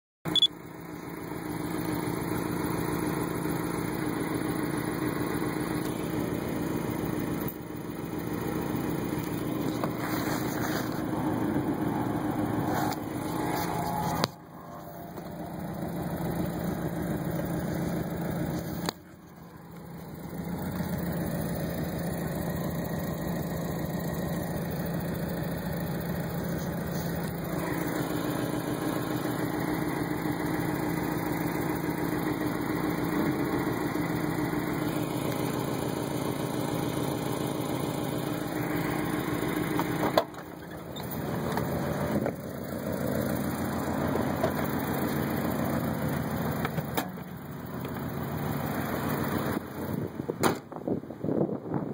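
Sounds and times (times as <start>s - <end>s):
car engine idling roughly: 0.4s - 50.8s.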